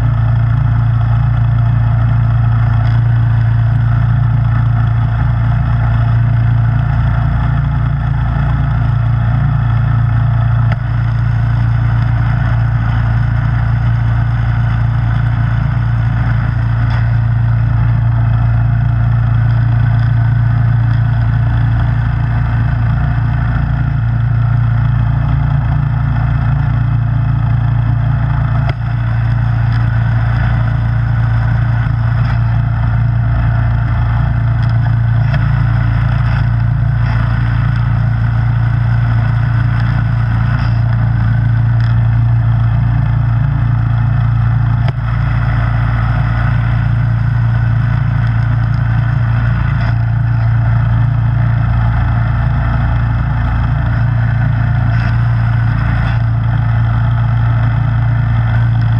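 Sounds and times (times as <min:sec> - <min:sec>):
snowblower engine running: 0:00.0 - 0:58.9.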